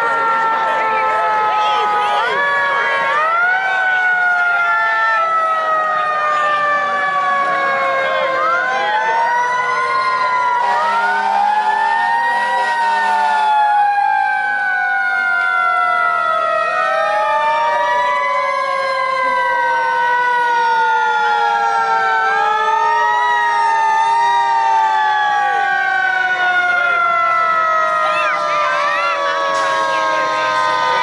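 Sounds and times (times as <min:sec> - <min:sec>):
fire engine sirens wailing: 0:00.0 - 0:31.0.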